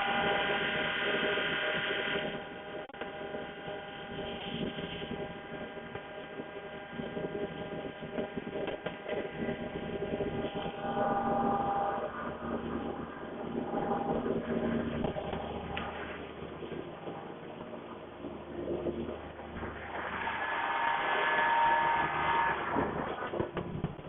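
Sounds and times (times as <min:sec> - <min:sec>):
loud high-pitched whine: 0:00.0 - 0:24.0
machine motors whining: 0:00.0 - 0:24.0.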